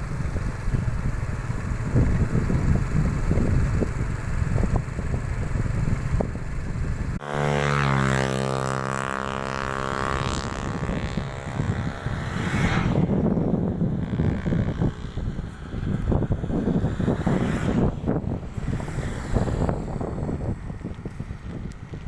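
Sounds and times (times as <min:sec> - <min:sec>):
wind buffeting microphone: 0:00.0 - 0:07.2, 0:08.8 - 0:22.0
motor drone: 0:00.0 - 0:22.0.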